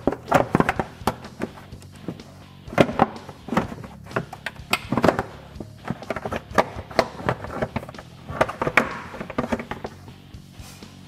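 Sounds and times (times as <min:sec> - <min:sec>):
plastic cover knocking and scraping: 0:00.0 - 0:10.0.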